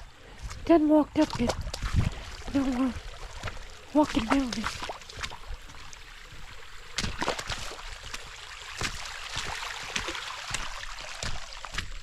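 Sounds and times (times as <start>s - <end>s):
feet splashing in water: 1.2s - 12.0s
stream rushing: 1.8s - 12.0s.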